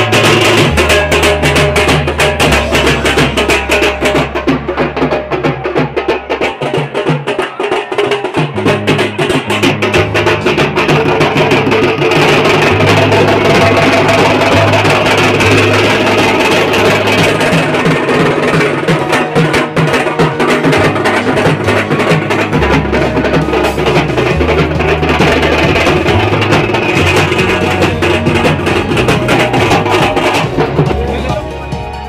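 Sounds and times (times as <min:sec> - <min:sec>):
bass line: 0:00.0 - 0:06.4, 0:08.4 - 0:18.8, 0:19.7 - 0:32.0
fast dense drum beat: 0:00.0 - 0:32.0.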